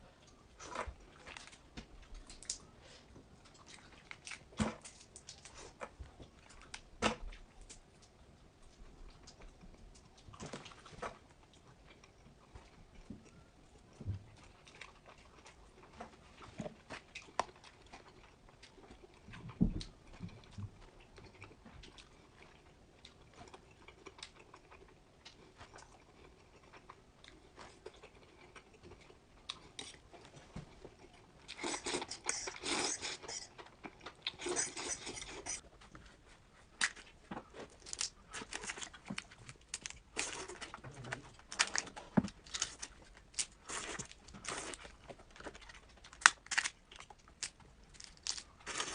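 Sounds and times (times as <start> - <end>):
chewing and crunching: 0.1 - 48.9.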